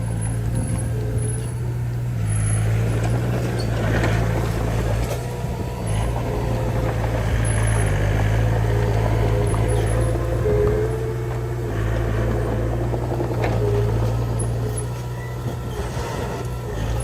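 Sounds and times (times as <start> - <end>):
diesel engine running under load: 0.0 - 17.0
rough mechanical clatter: 0.0 - 17.0.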